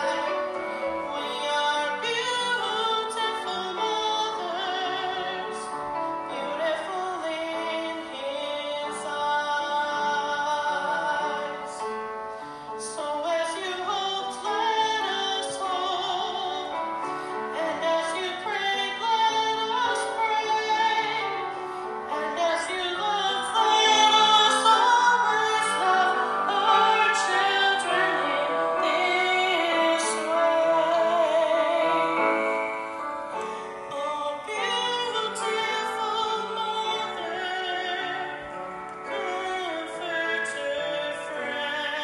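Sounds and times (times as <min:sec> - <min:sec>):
woman singing slow song: 0:00.0 - 0:11.9, 0:12.8 - 0:16.8, 0:17.5 - 0:21.4, 0:22.1 - 0:32.7, 0:33.3 - 0:42.0
instrumental accompaniment: 0:00.0 - 0:42.0.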